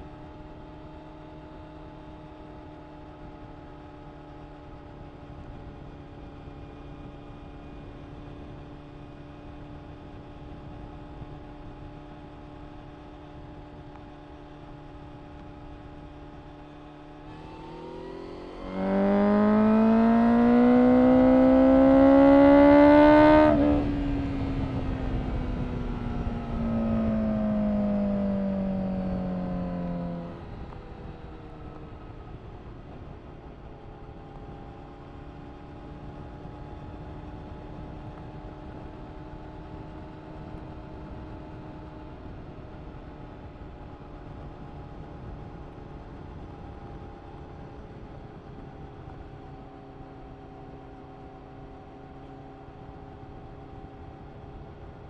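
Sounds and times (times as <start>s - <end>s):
engine hum: 0.0s - 55.0s
motorcycle engine accelerating: 0.0s - 55.0s.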